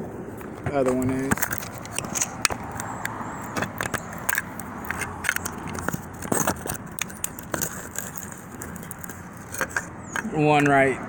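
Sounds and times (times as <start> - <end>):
metal tools clinking: 0.6 - 10.9.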